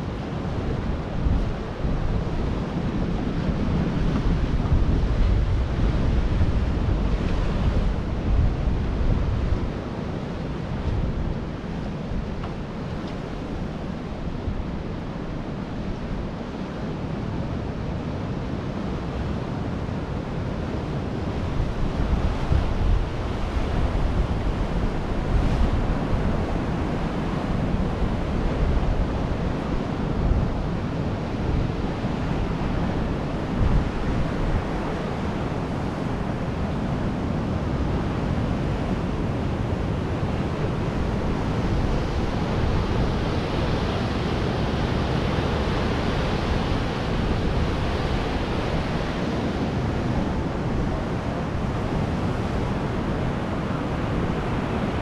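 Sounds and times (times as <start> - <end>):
ocean surf washing onto beach: 0.0 - 55.0
wind rumbling on microphone: 0.0 - 55.0.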